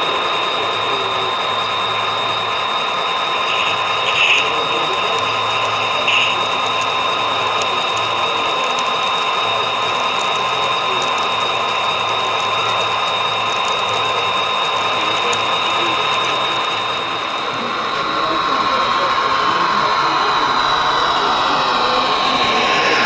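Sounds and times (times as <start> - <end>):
model train motor whine: 0.0 - 23.0.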